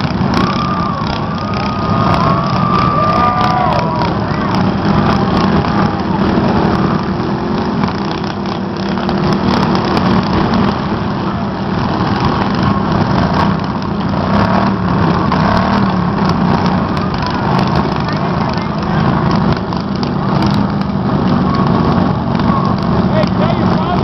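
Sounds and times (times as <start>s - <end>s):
lawn mower engine drone: 0.0s - 24.0s.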